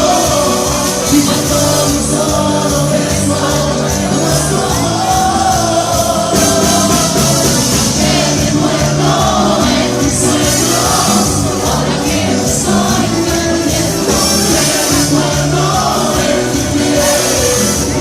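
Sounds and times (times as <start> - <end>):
live band playing latin dance music: 0.0 - 18.0
person singing: 0.0 - 18.0.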